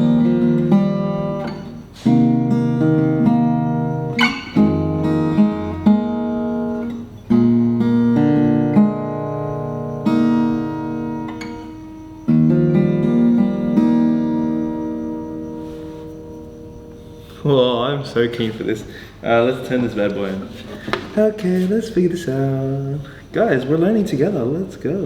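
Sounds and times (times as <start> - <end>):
acoustic guitar chords ringing: 0.0 - 25.0.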